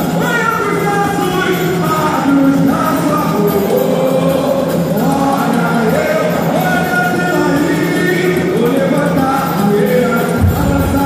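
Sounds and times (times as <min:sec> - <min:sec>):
samba drum section: 0:00.0 - 0:11.0
person singing: 0:00.1 - 0:11.0.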